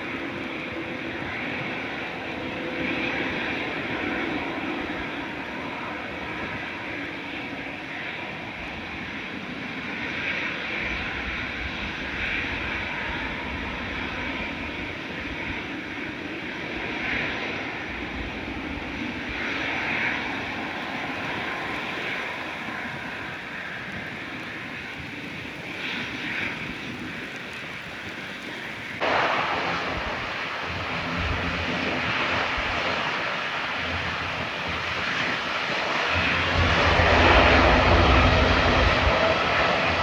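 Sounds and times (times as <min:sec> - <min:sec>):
jet engines during takeoff: 0:00.0 - 0:40.0.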